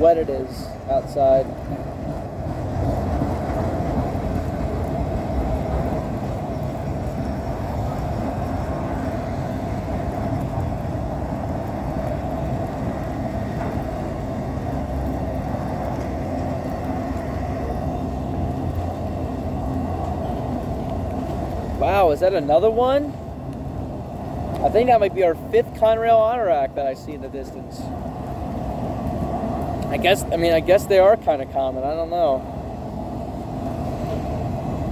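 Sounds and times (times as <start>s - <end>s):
freight train wheels rumbling: 0.0s - 34.9s.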